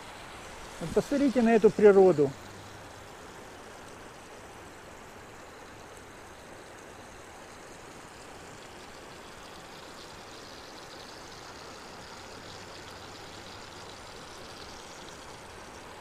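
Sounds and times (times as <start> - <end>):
creek rushing over stones: 0.0 - 16.0.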